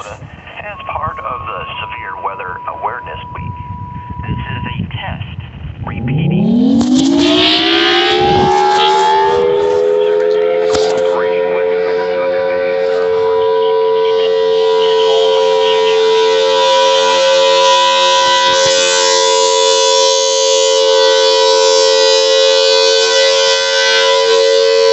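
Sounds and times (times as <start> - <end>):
two-note warning siren: 0.7 - 24.9.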